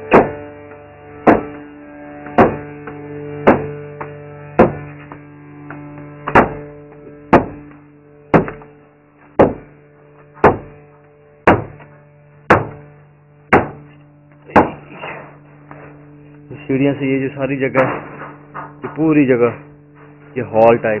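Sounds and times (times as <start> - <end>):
steady low hum: 0.0 - 21.0
hammer blows ringing: 0.1 - 0.4, 1.2 - 8.7, 9.3 - 9.8, 10.4 - 10.8, 11.4 - 12.9, 13.5 - 16.0, 16.6 - 21.0.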